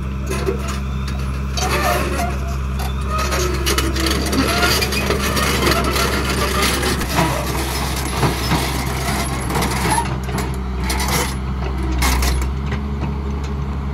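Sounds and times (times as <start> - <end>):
excavator diesel engine running: 0.0 - 13.9.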